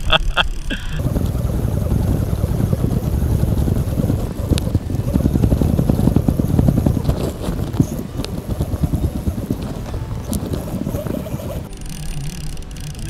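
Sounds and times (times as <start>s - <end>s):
wind rumbling on microphone: 1.0s - 11.7s
handling noise: 1.0s - 12.9s.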